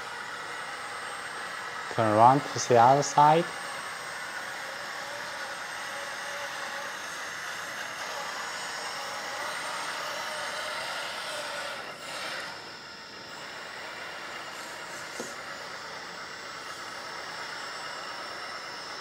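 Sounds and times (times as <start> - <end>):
electric motors whirring: 0.0 - 19.0.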